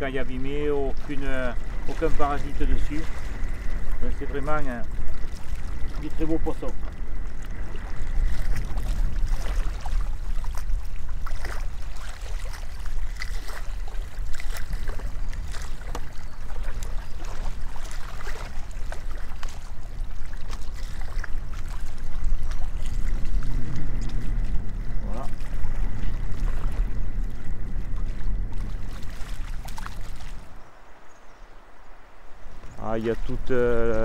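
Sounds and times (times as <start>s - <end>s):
water sloshing and splashing: 0.0s - 31.3s, 32.0s - 34.0s
wind on microphone: 0.0s - 34.0s.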